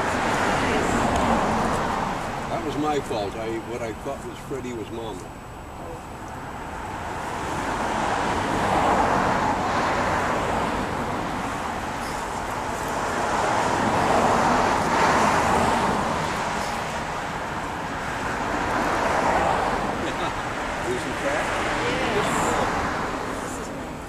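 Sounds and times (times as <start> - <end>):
cars passing with tyre hiss: 0.0 - 24.0.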